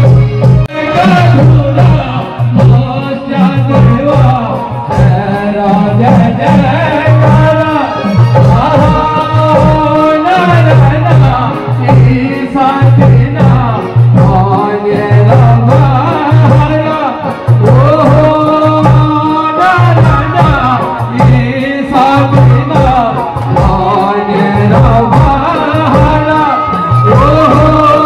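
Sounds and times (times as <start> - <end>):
drum beat: 0.0 - 28.0
person singing: 0.0 - 28.0.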